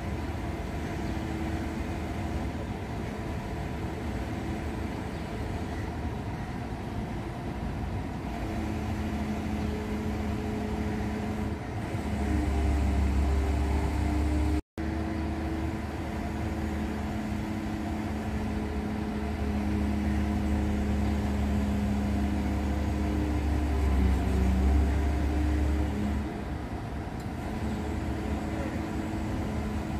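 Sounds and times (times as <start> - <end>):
diesel engine rumbling: 0.0 - 29.9.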